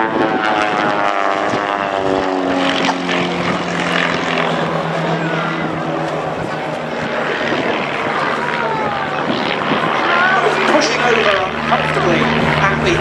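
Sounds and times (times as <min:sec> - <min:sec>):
propeller planes flying past: 0:00.0 - 0:13.0.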